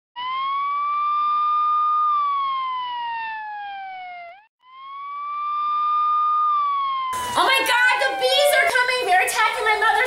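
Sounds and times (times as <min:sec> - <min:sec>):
wailing siren: 0:00.2 - 0:10.0.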